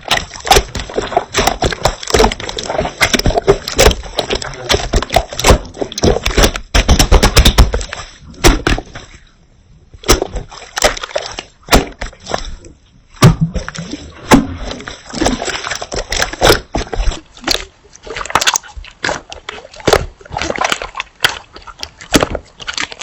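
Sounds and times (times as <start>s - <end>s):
slime squelching: 0.0s - 23.0s.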